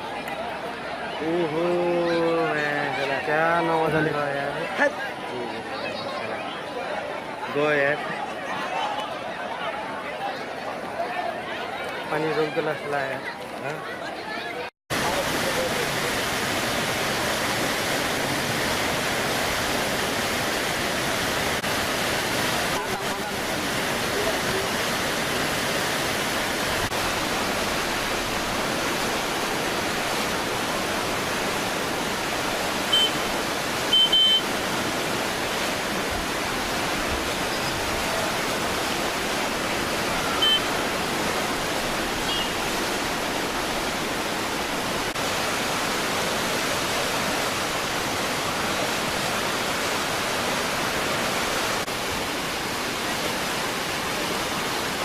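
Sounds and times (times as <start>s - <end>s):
flood water rushing: 0.0s - 55.0s.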